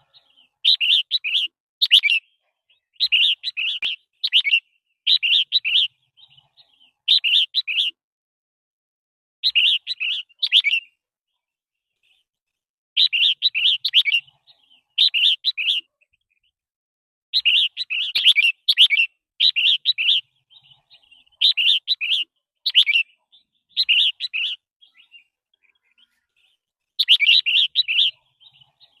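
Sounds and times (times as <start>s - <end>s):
bird warbling song: 0.0s - 8.0s, 9.4s - 11.0s, 13.0s - 16.6s, 17.4s - 29.0s.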